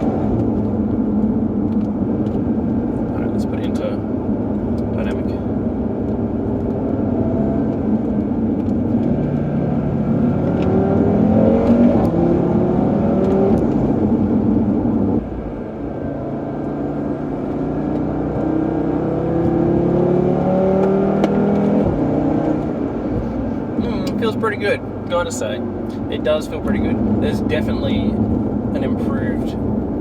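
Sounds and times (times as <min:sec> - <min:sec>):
car engine accelerating hard: 0:00.0 - 0:30.0.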